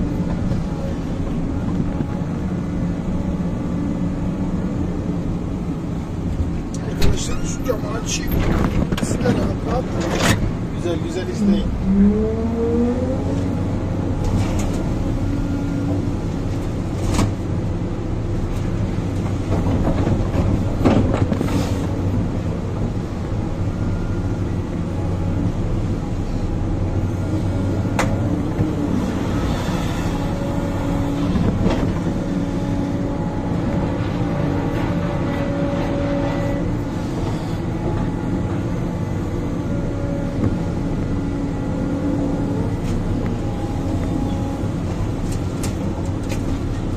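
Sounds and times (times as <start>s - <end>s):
excavator engine and hydraulics: 0.0s - 46.9s.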